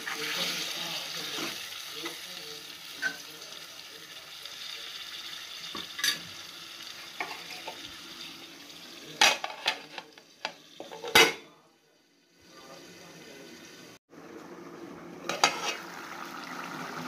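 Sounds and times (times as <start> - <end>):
curry sizzling in a pot: 0.0 - 17.0.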